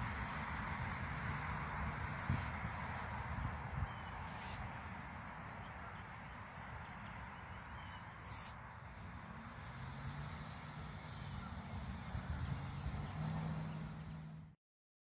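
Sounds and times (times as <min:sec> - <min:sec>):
vehicle engine hum: 0:00.0 - 0:14.6.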